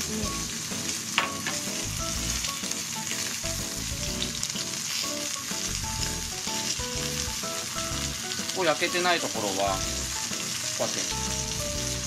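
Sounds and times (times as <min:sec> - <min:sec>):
chicken sizzling in frying pan: 0:00.0 - 0:12.0
light background music: 0:00.0 - 0:12.0.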